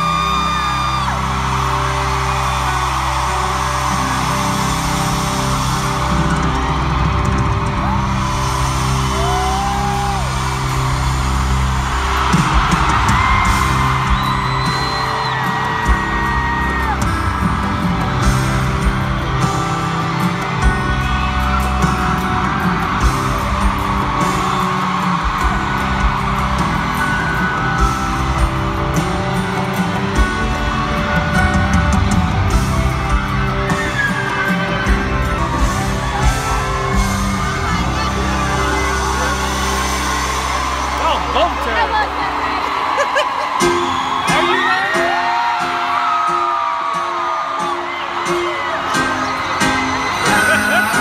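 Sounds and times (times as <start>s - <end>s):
live band music: 0.0s - 46.7s, 47.3s - 51.0s
crowd screaming and whooping: 0.0s - 51.0s.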